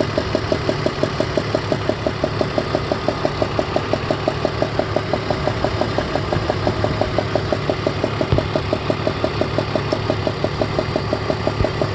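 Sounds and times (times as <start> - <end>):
car engine idling: 0.0 - 11.9
rapid ticking knock: 0.0 - 11.9.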